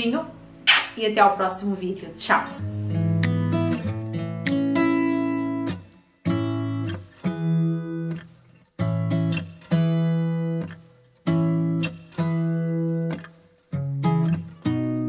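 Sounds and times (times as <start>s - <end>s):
guitar chords ringing: 2.3s - 15.0s.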